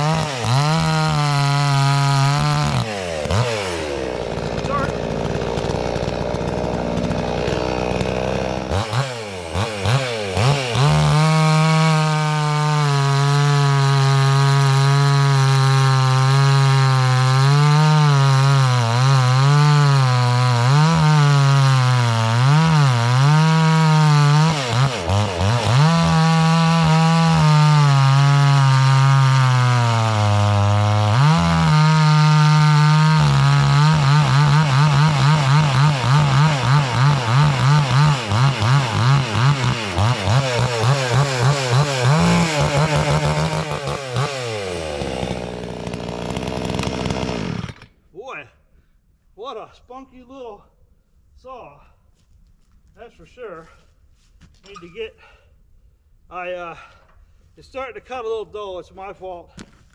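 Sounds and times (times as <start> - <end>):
chainsaw cutting log: 0.0 - 48.0.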